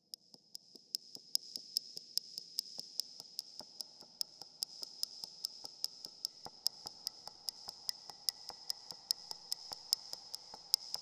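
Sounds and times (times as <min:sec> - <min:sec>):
sharp ticks: 0:00.6 - 0:11.0.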